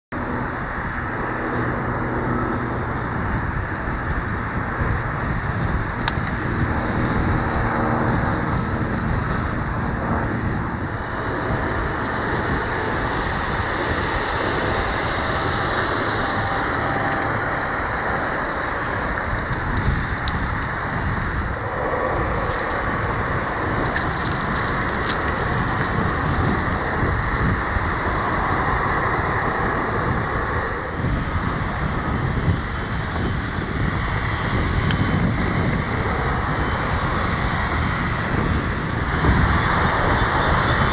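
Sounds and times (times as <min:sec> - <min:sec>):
high engine whine: 0:00.1 - 0:40.9
jet engines rumbling: 0:00.1 - 0:40.9
wind noise on microphone: 0:00.1 - 0:40.9.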